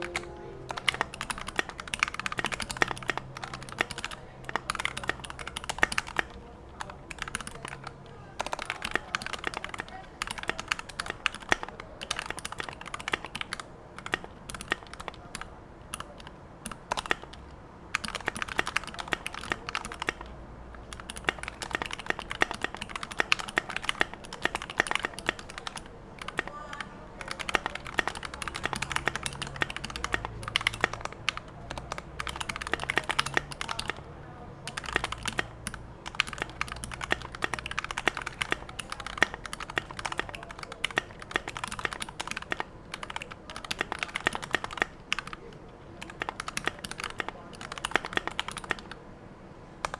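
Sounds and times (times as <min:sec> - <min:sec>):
mechanical keyboard typing: 0:00.0 - 0:49.0.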